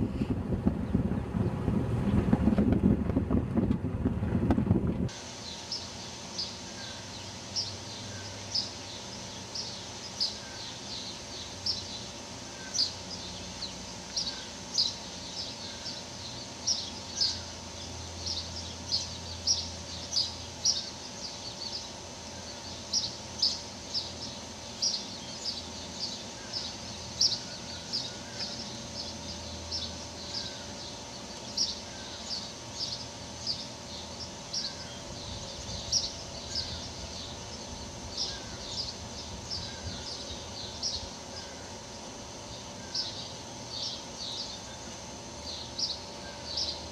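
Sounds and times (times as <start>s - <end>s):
small birds chirping: 5.3s - 46.9s.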